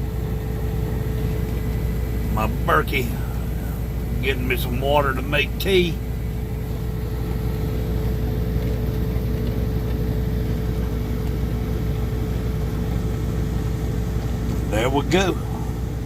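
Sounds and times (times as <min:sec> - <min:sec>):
deep machine rumble: 0:00.0 - 0:16.0
thin steady hum: 0:00.0 - 0:16.0.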